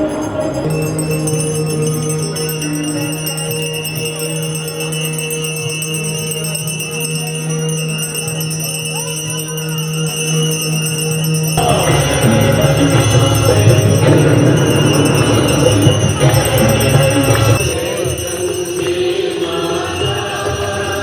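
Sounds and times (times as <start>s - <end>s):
music with held drone: 0.0s - 21.0s.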